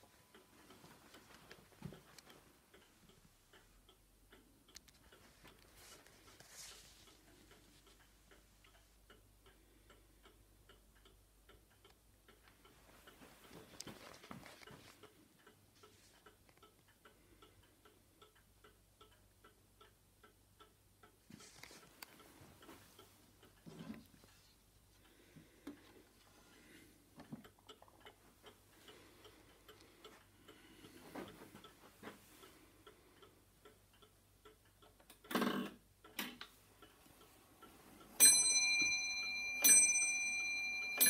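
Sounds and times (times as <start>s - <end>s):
clock ticking: 0.0s - 41.0s.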